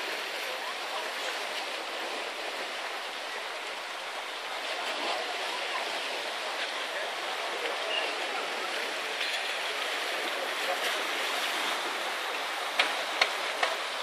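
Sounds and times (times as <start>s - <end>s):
sea water washing against rocks: 0.0s - 14.0s.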